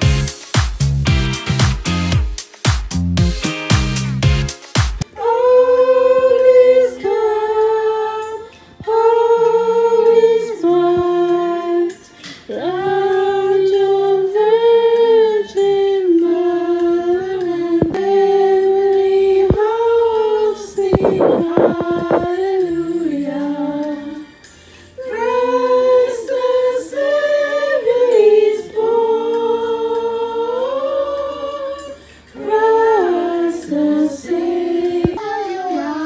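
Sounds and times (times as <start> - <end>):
lower harmony voices: 5.0 - 36.0.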